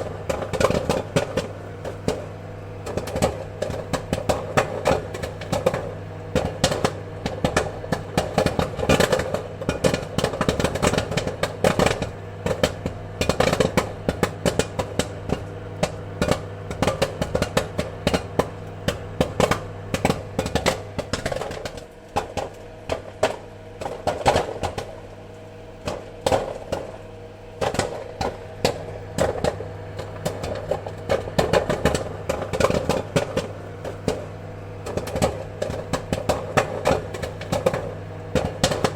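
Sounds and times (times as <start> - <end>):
popcorn kernels popping: 0.0 - 38.9
steady low hum: 0.0 - 38.9.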